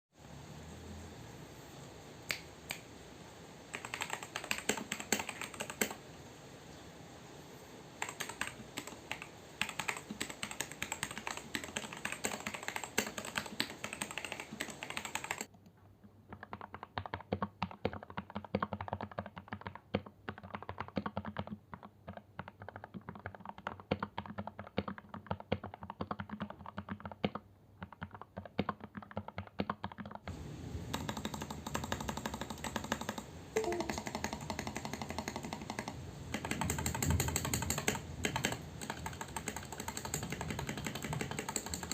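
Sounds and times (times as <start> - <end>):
mechanical keyboard typing: 3.7 - 6.0, 8.0 - 15.6, 16.3 - 30.3, 30.9 - 41.9.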